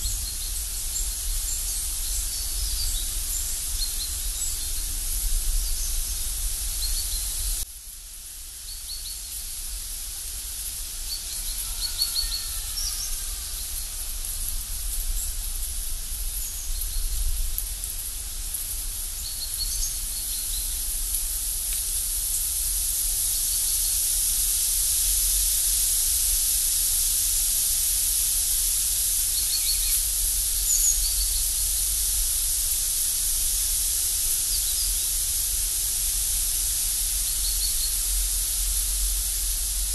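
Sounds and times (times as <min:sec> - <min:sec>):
low wind rumble: 0:00.0 - 0:07.7, 0:12.8 - 0:39.9
steady high hiss: 0:00.0 - 0:39.9.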